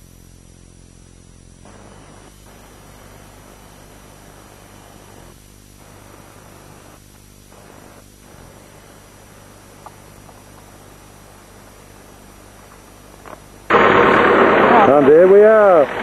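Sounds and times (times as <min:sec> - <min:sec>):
low electrical hum: 0:00.0 - 0:16.0
tape hiss: 0:00.0 - 0:16.0.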